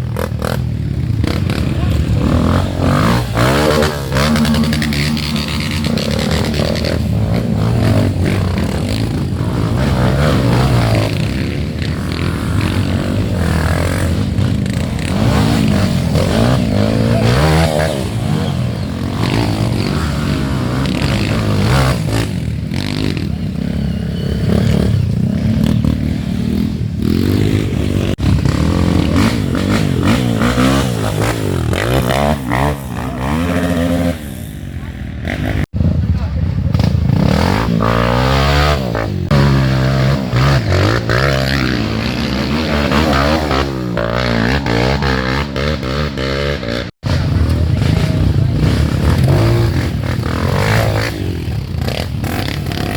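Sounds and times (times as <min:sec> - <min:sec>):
dirt bike engines revving: 0:00.0 - 0:52.9.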